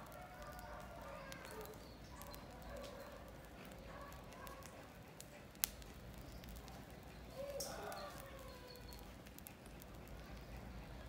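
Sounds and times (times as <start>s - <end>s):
burning matchsticks crackling: 0.0s - 11.0s.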